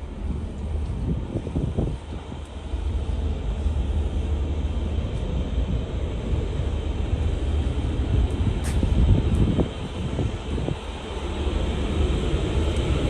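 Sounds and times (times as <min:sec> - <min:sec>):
ship machinery roar: 0:00.0 - 0:13.0
wind buffeting microphone: 0:00.0 - 0:13.0.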